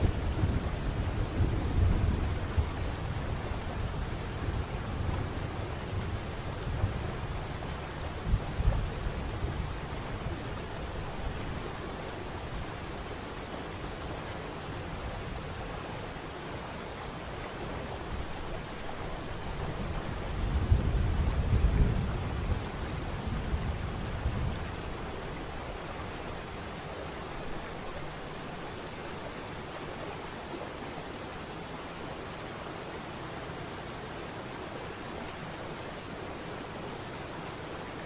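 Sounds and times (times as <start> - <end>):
faint high-pitched whine: 0.0 - 38.0.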